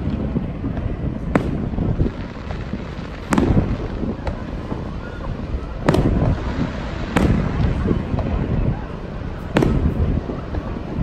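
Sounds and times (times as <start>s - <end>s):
fireworks pops: 0.0s - 8.8s, 9.4s - 11.0s
fireworks bangs: 0.0s - 11.0s.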